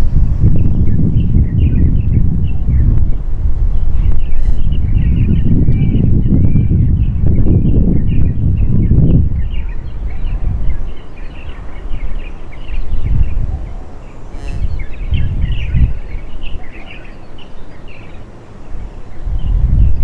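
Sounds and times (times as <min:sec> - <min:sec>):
wind buffeting microphone: 0:00.0 - 0:20.0
small birds chirping: 0:00.3 - 0:20.0.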